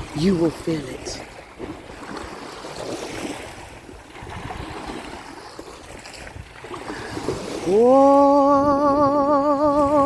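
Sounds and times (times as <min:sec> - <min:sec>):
surf rushing: 0:00.0 - 0:10.0
wind noise: 0:01.6 - 0:10.0.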